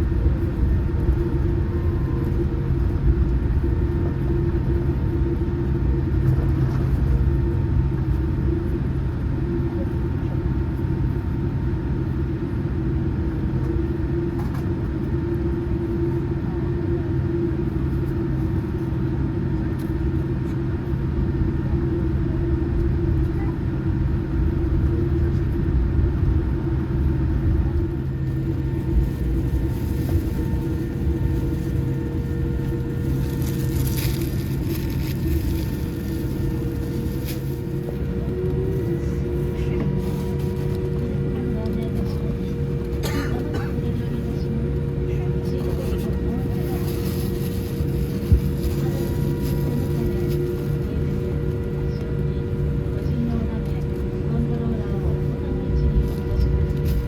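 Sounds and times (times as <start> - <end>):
aircraft cabin engine rumble: 0.0 - 57.0.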